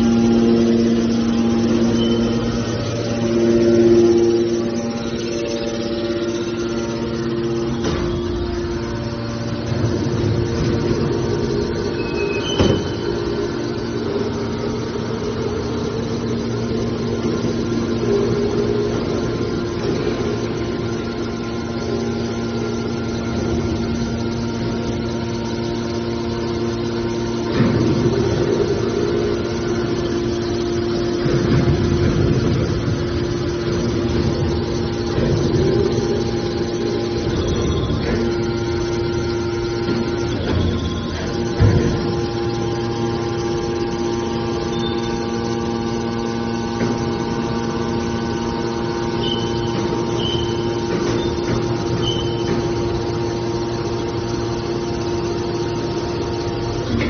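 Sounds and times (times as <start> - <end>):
baling machine humming: 0.0 - 57.0.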